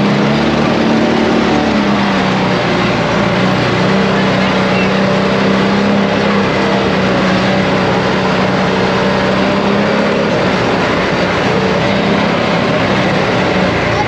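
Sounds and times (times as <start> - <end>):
atv engine running: 0.0 - 14.0
rushing noise: 0.0 - 14.0.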